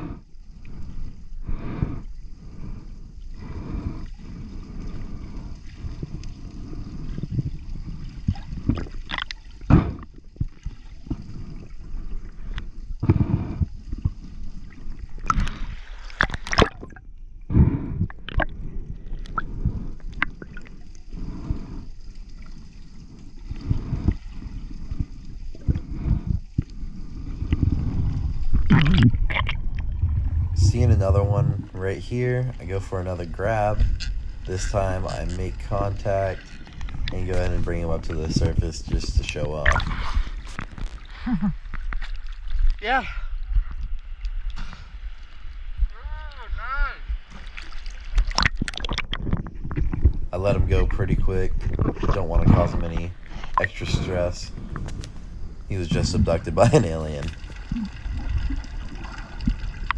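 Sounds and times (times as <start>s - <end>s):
low underwater rumble: 0.0s - 59.9s
underwater water sloshing: 0.0s - 59.9s.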